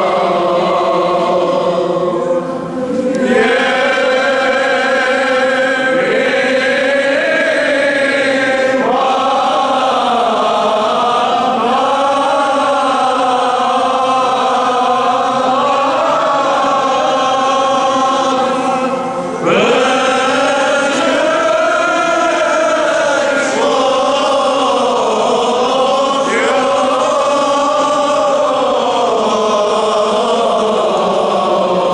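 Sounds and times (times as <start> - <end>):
choir chanting: 0.0 - 31.9.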